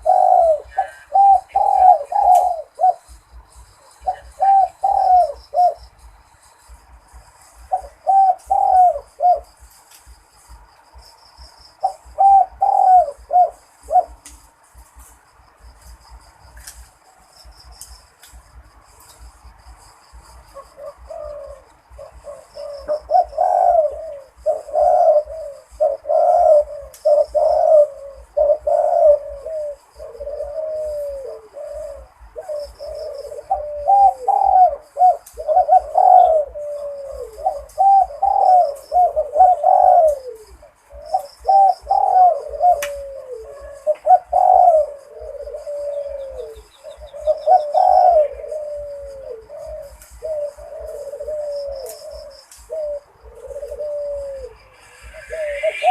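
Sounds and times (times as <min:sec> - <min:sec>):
dove cooing: 0:00.0 - 0:09.8, 0:10.4 - 0:14.9, 0:19.2 - 0:55.9.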